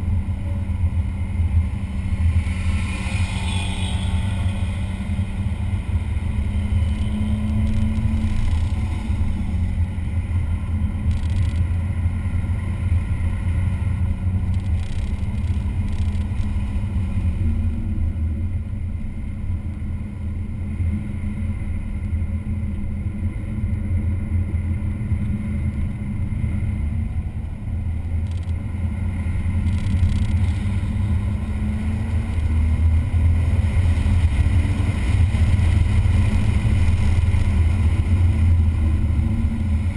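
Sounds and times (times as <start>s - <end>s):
race car engine droning: 0.0s - 39.9s.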